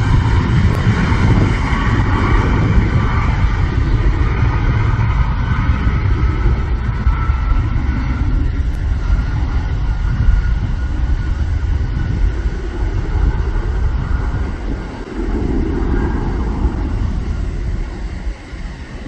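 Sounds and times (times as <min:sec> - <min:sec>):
jet engines rumbling and whining: 0:00.0 - 0:19.0.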